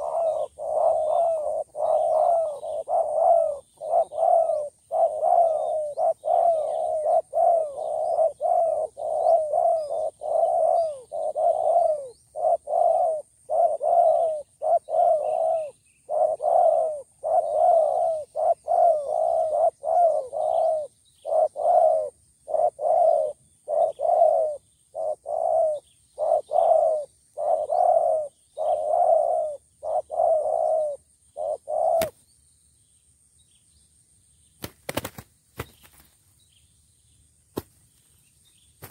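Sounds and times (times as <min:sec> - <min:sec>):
doves cooing: 0:00.0 - 0:32.2.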